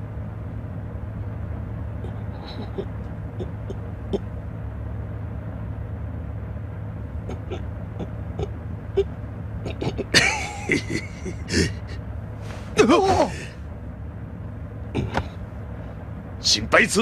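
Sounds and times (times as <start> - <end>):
low rumbling drone: 0.0 - 16.8.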